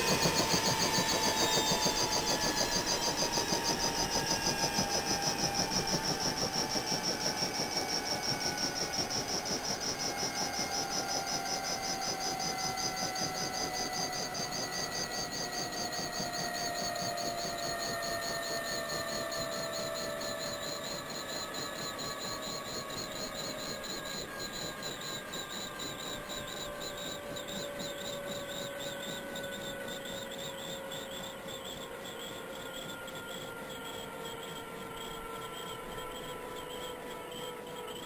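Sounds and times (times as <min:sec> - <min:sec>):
helicopter rotor pulsing: 0:00.0 - 0:38.0
turbine whine falling: 0:00.0 - 0:38.0.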